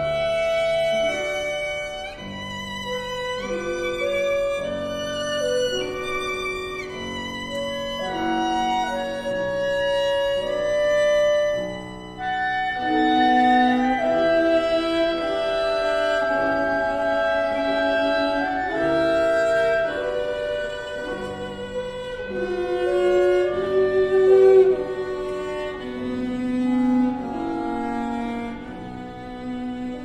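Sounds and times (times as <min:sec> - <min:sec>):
soft accompaniment: 0:00.0 - 0:30.0
violin playing slow melody: 0:00.0 - 0:30.0.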